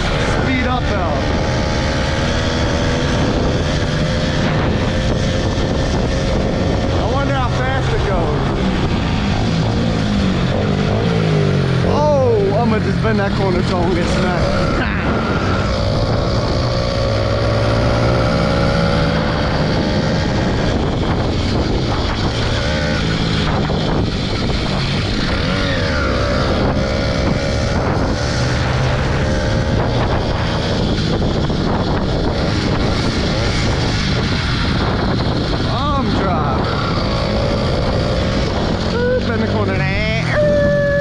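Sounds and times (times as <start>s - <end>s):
motorbike engine revving: 0.0s - 41.0s
wind noise on microphone: 0.0s - 41.0s.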